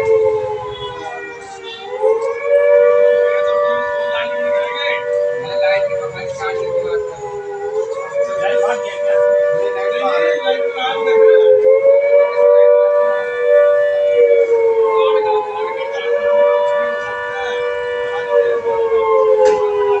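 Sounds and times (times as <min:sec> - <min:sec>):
civil defence siren wailing: 0:00.0 - 0:20.0.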